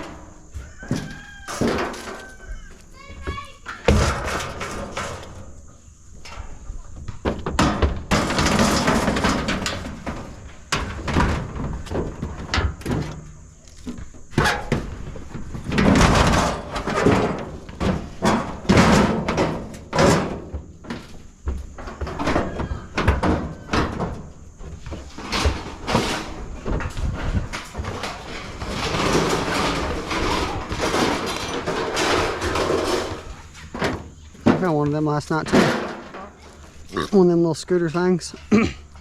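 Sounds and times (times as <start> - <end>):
scrap metal clanking into truck bed: 0.0 - 13.6, 14.3 - 21.2, 21.8 - 37.2.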